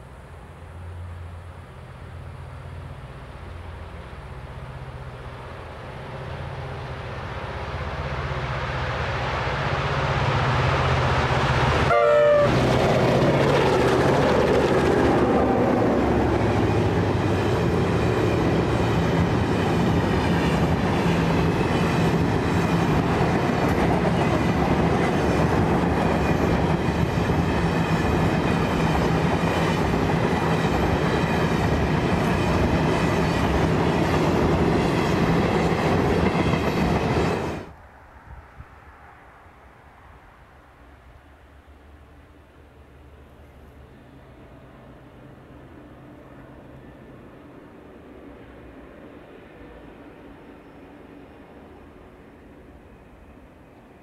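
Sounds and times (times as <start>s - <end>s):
diesel locomotive passing: 0.0s - 54.0s.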